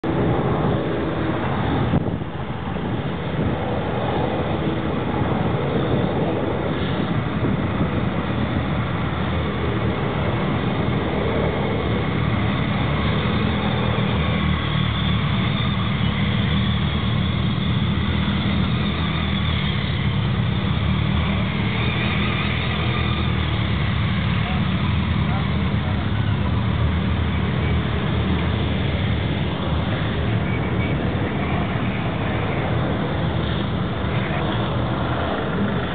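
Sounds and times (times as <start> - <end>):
vehicle engines passing slowly: 0.0 - 35.9.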